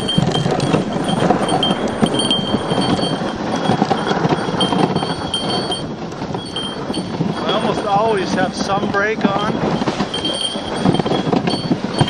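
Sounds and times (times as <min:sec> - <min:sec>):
thin high ringing: 0:00.0 - 0:08.3, 0:09.3 - 0:12.0
sled runners scraping on icy snow: 0:00.0 - 0:12.0.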